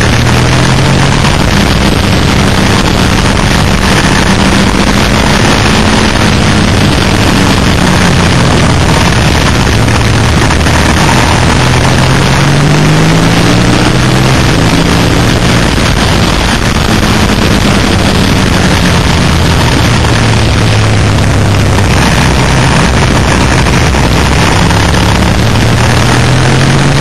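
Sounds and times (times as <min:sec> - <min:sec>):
motorcycle engine running: 0:00.0 - 0:27.0
wind rush on microphone: 0:00.0 - 0:27.0.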